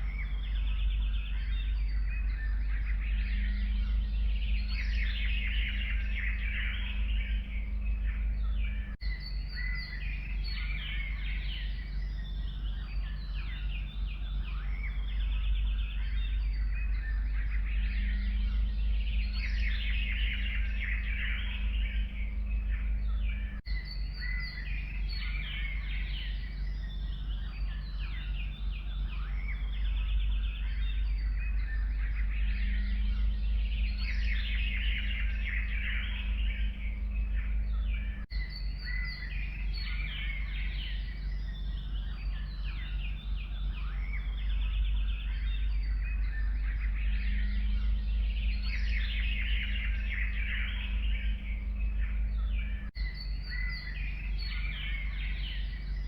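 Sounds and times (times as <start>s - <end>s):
songbirds singing and chirping: 0.0s - 56.0s
steady low rumble: 0.0s - 56.0s.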